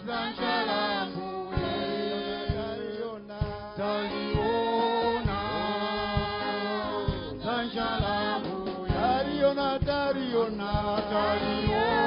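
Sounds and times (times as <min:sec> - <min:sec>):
group singing gospel in harmony: 0:00.0 - 0:12.0
low beat thud: 0:01.5 - 0:12.0.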